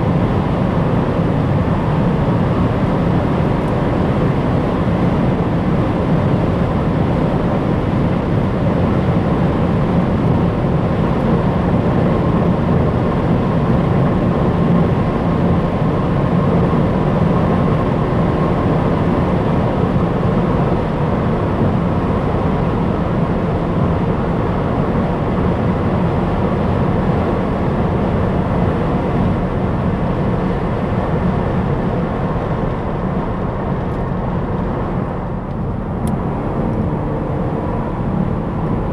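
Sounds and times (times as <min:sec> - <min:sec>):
car engine hum: 0:00.0 - 0:38.9
road and wind noise: 0:00.0 - 0:38.9.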